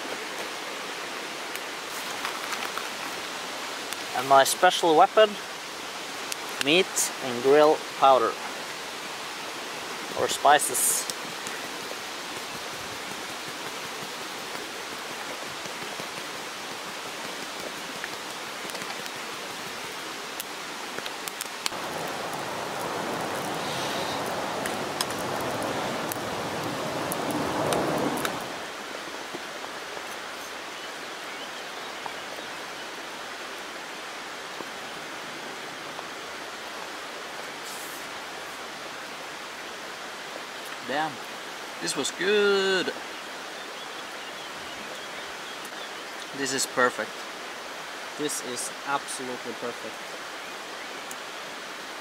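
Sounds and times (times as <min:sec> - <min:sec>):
river rushing: 0:00.0 - 0:52.0.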